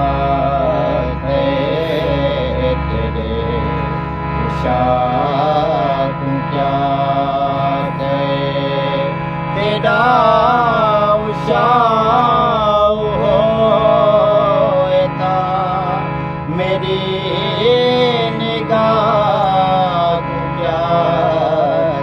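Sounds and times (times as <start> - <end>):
droning accompaniment: 0.0 - 22.0
man singing wordless melody: 0.0 - 22.0.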